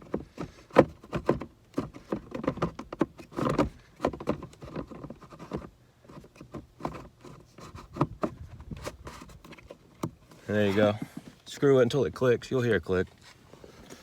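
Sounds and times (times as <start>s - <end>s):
clicks knocks and scraping: 0.0s - 14.0s.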